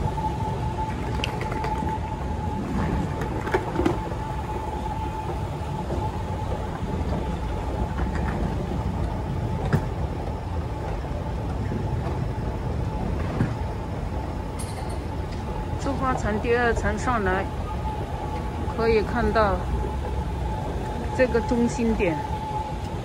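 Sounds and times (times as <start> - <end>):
escalator rumble: 0.0 - 23.0
faint hum: 0.0 - 23.0
large hall ambience: 0.0 - 23.0.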